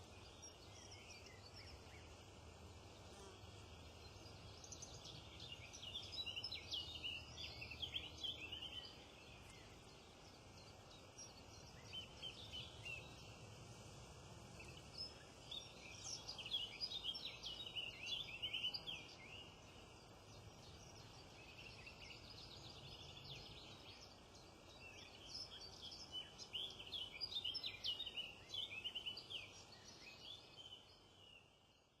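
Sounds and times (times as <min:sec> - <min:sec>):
faint background hiss: 0:00.0 - 0:32.0
songbirds chirping and trilling: 0:00.0 - 0:32.0.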